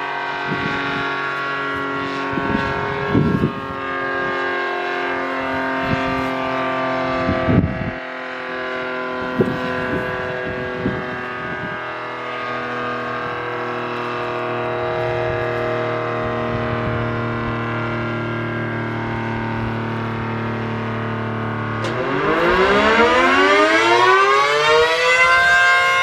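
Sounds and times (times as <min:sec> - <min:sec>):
electric siren steady tone: 0:00.0 - 0:26.0.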